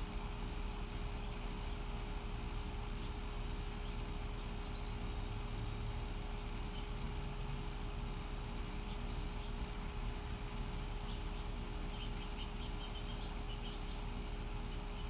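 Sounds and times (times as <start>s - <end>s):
low outdoor rumble and hiss: 0.0s - 15.0s
small birds chirping: 0.0s - 15.0s.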